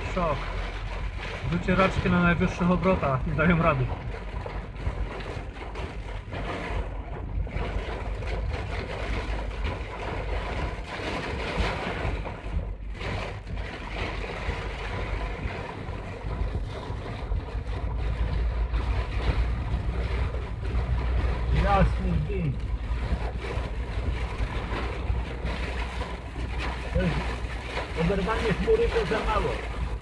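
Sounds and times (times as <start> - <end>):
car driving rumble: 0.0 - 30.0
heavy rain drumming on car roof: 0.0 - 30.0.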